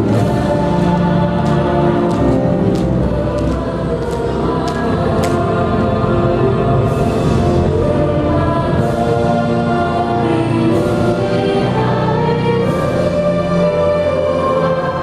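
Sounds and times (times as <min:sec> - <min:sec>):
choir singing with instruments: 0:00.0 - 0:15.0.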